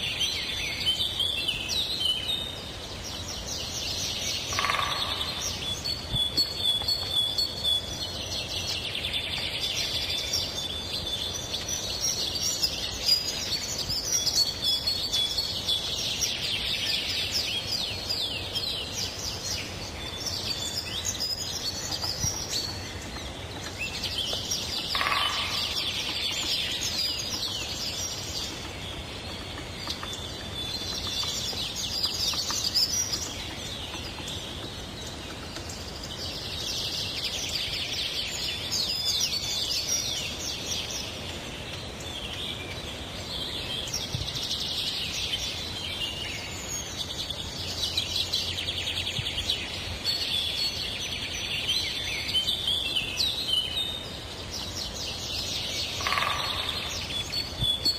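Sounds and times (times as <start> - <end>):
birds chirping and trilling: 0.0 - 57.9
faint steady background hiss: 0.0 - 57.9.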